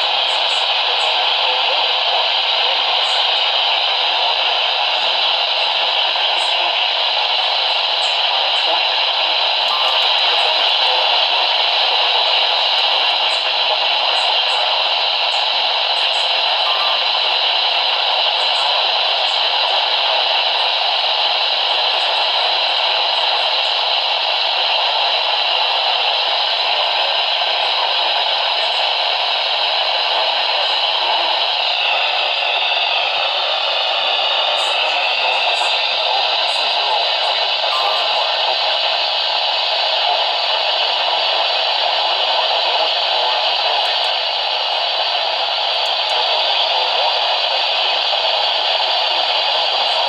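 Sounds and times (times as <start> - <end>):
radio static hiss: 0.0 - 50.0.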